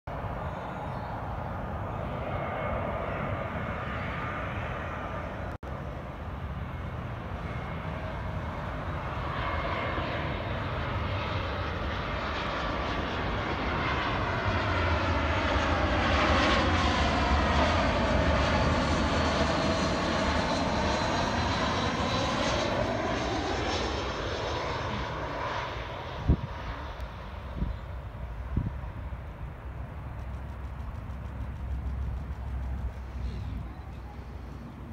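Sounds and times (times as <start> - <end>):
jet airliner passing: 0.1 - 34.9.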